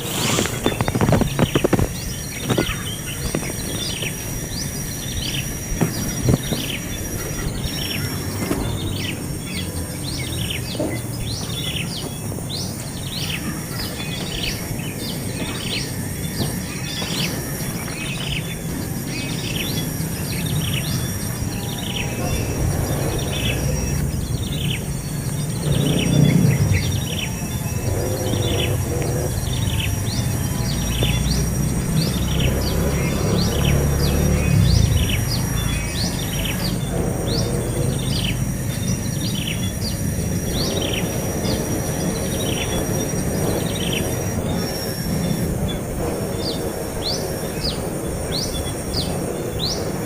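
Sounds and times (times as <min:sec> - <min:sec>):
nestling birds begging chirps: 0:00.0 - 0:50.0.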